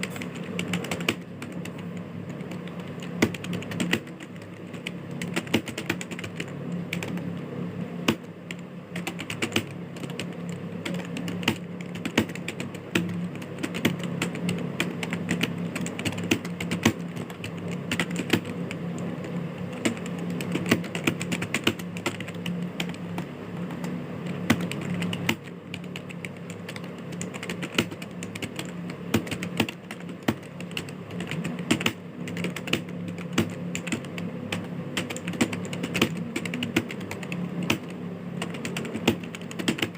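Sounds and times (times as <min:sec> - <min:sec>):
computer keyboard typing: 0:00.0 - 0:39.9
steady low hum: 0:00.0 - 0:39.9.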